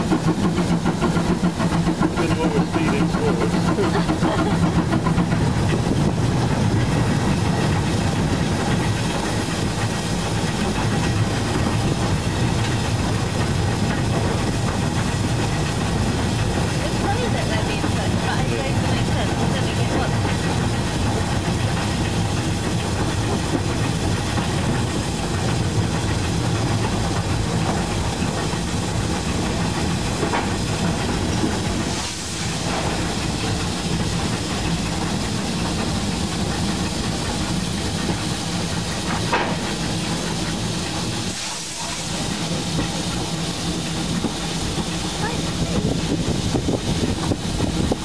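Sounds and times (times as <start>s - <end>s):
locomotive wheels rumbling on rails: 0.0s - 48.0s
steam hissing: 0.0s - 48.0s.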